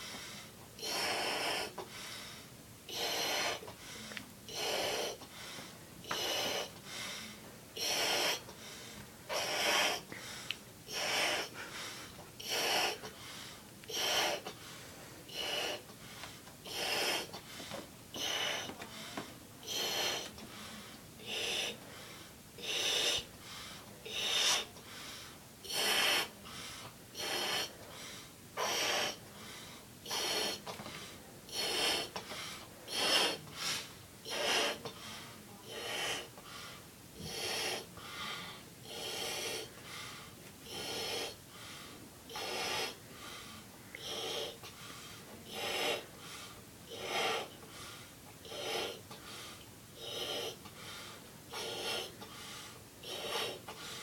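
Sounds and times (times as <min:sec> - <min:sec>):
person breathing in hard: 0:00.0 - 0:54.0.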